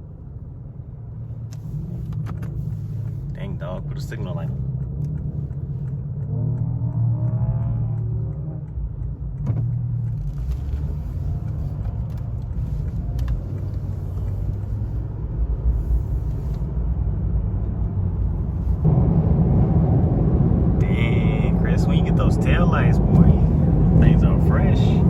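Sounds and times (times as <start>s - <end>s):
car engine: 0.0s - 25.0s
road rumble: 0.0s - 25.0s.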